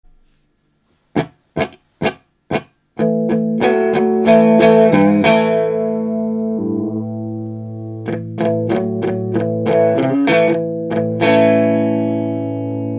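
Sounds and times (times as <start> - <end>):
electric guitar chords: 1.2 - 12.9.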